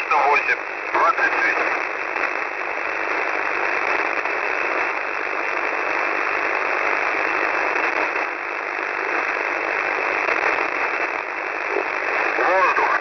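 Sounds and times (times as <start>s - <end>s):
shortwave radio hiss: 0.0s - 13.0s.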